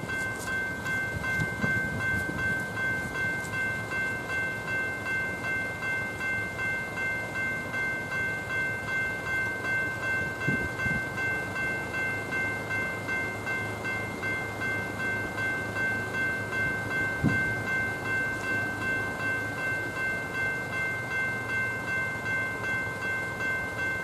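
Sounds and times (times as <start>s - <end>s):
level crossing bell ringing: 0.0s - 24.0s.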